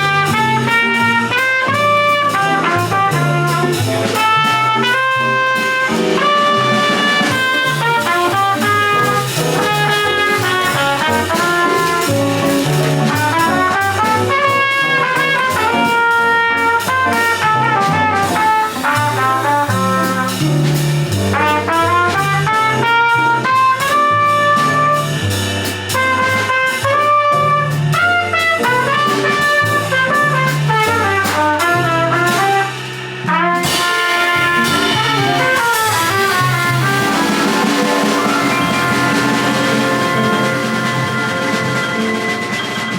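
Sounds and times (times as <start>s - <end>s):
drum kit with ride cymbal: 0.0s - 42.9s
horn solo: 0.0s - 42.9s
walking bass: 0.0s - 42.9s.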